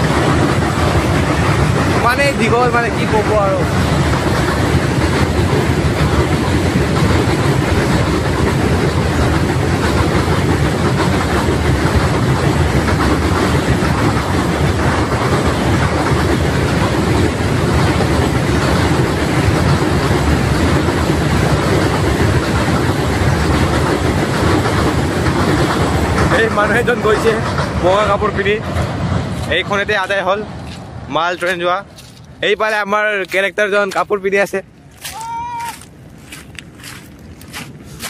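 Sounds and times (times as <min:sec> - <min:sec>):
train wagons rolling over bridge: 0:00.0 - 0:38.0.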